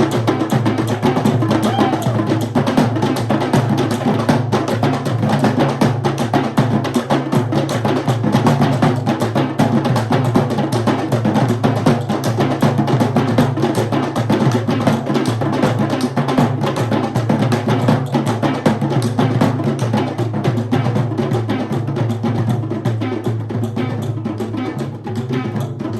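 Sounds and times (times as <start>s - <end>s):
drum ensemble playing fast rhythm: 0.0s - 25.9s.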